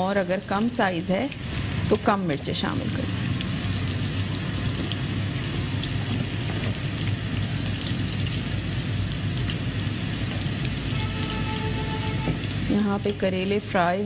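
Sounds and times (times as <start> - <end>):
vegetable slices sizzling in oil: 0.0 - 14.0.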